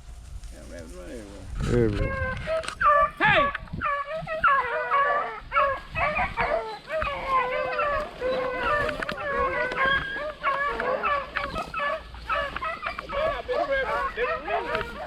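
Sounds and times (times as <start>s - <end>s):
pack of dogs baying: 2.0s - 15.0s.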